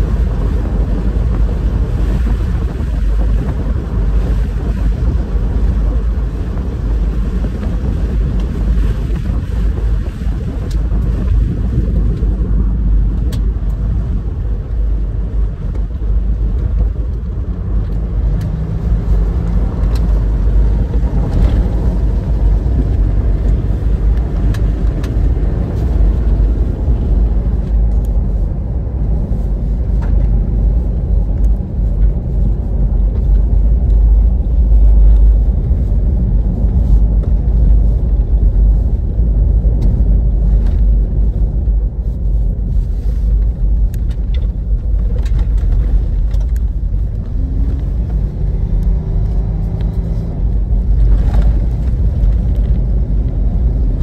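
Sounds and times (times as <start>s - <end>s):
car engine running: 0.0s - 54.0s
tyres rumbling on gravel: 0.0s - 54.0s.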